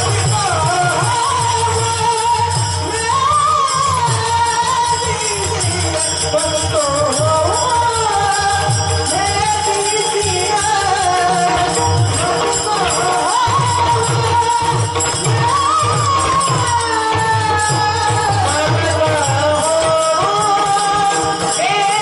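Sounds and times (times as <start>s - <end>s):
jingling percussion: 0.0s - 22.0s
man singing devotional melody: 0.0s - 22.0s.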